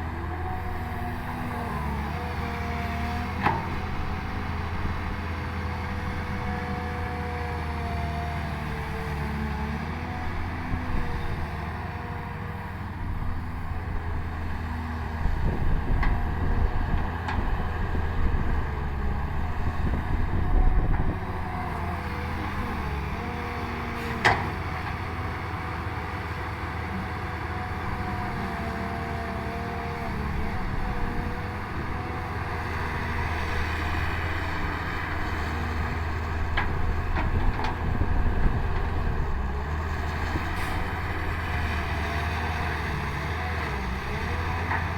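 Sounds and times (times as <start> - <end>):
excavator diesel engine running: 0.0 - 44.9
engine whine: 8.5 - 44.9.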